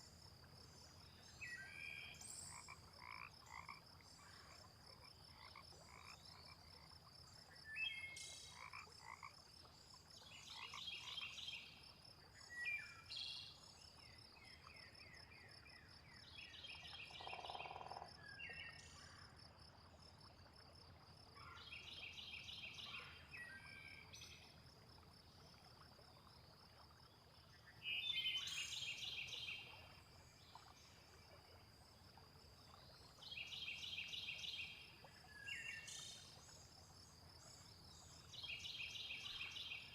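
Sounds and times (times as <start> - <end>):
frogs croaking: 0.0 - 13.0, 16.7 - 39.9.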